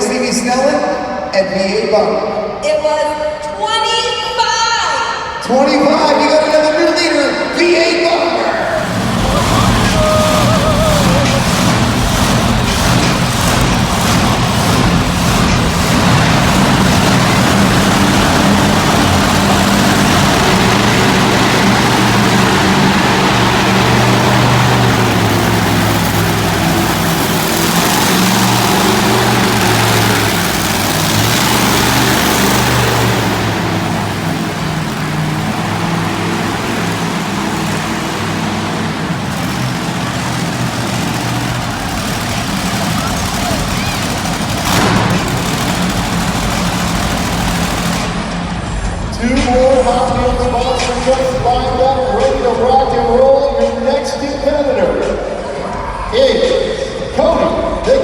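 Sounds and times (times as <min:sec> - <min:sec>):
monster truck engine revving: 0:00.0 - 0:03.4, 0:05.2 - 0:58.0.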